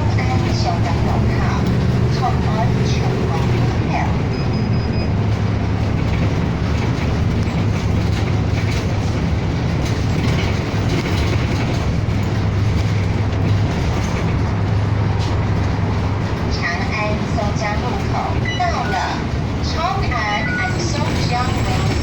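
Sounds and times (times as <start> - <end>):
bus engine drone: 0.0 - 22.0
road noise: 0.0 - 22.0.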